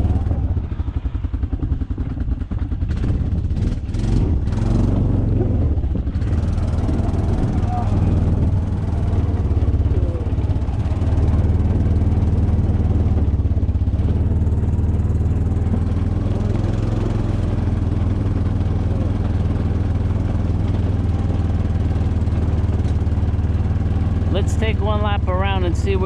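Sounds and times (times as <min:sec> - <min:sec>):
motorbike engine humming: 0:00.0 - 0:26.0.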